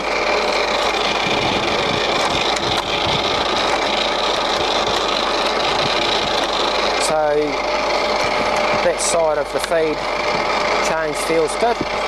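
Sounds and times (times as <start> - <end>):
lathe running with whirring gears: 0.0 - 12.0.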